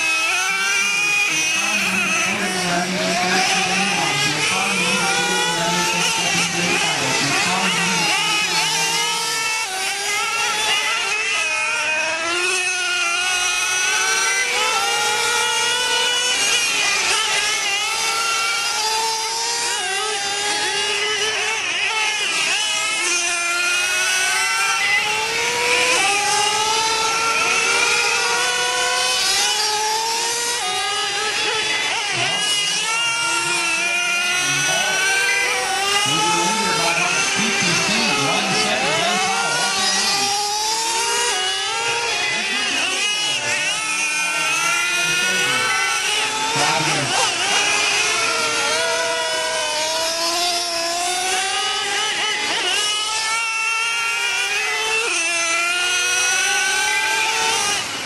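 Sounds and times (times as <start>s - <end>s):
model truck engines buzzing: 0.0s - 58.0s.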